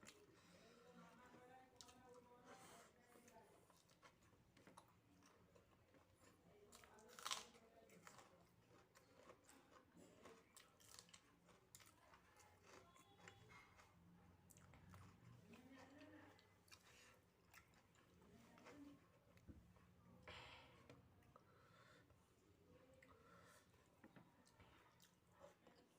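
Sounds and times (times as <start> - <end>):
chewing soft food: 0.0 - 20.2, 20.8 - 25.9.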